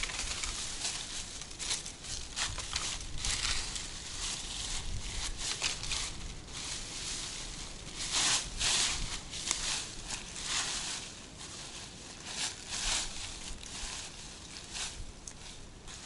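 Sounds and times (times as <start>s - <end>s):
footsteps crunching dry leaves: 0.0s - 16.0s
leaf litter rustling: 0.0s - 16.0s.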